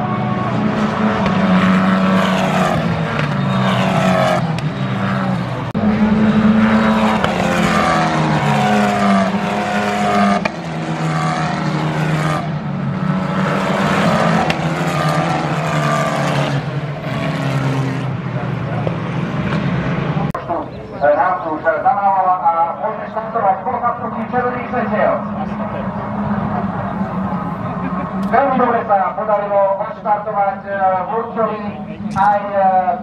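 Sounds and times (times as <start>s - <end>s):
race car engines at high revs: 0.0s - 20.4s, 22.8s - 33.0s.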